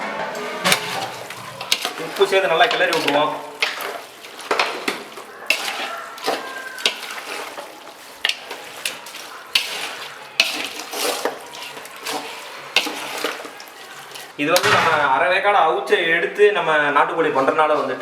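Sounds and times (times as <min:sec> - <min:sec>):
ladle scraping pot: 0:00.3 - 0:15.0
masala sizzling: 0:00.3 - 0:15.0.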